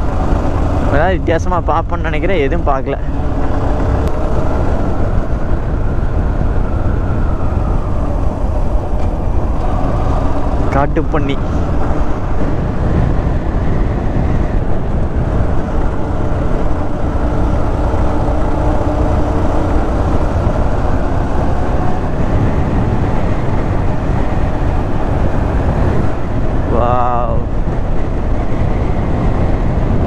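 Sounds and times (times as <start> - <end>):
motorcycle engine running: 0.0 - 26.7
wind rushing over microphone: 0.0 - 30.0.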